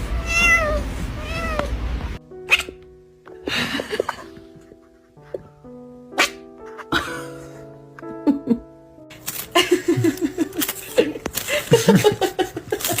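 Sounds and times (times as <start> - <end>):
background music with held notes: 2.2 - 13.0.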